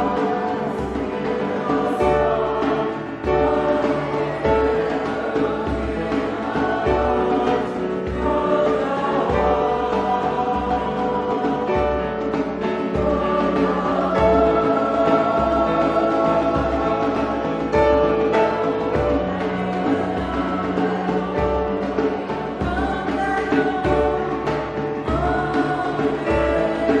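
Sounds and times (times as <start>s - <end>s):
choir singing sacred music: 0.0s - 27.0s.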